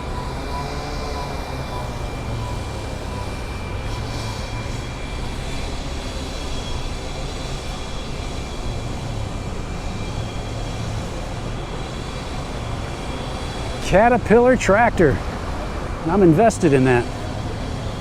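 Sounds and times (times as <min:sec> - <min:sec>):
faint steady whine: 0:00.0 - 0:18.0
low engine rumble: 0:00.0 - 0:18.0.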